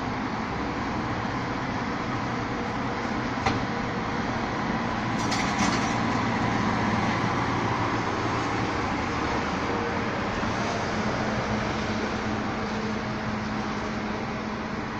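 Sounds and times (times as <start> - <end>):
garbage truck running: 0.0 - 14.9.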